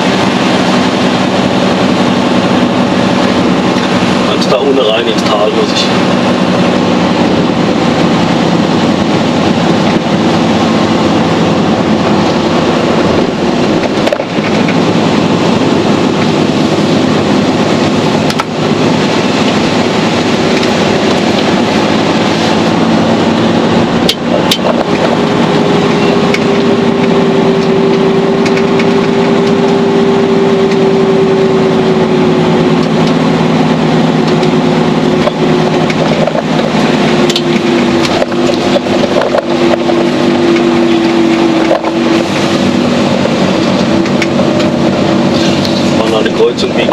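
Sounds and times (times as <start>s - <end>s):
diesel engine and road noise: 0.0s - 46.9s
high-pitched whine: 0.0s - 46.9s.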